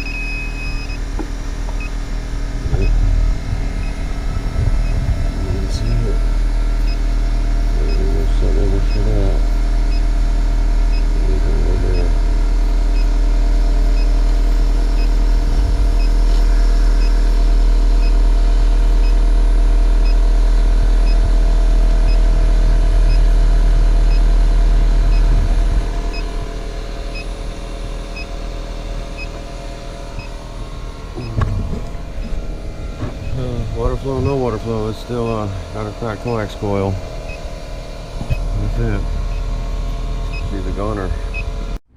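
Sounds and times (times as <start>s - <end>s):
heat pump low hum: 0.0s - 41.9s.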